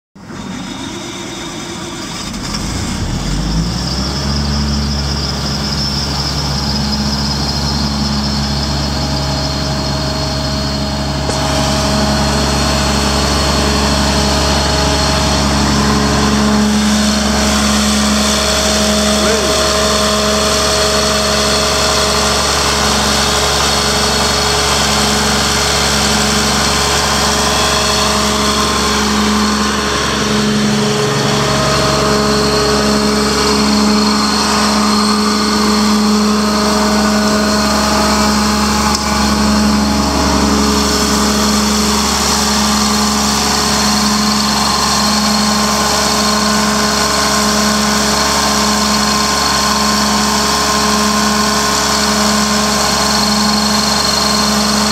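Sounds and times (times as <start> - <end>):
diesel air compressor running: 0.2 - 54.9.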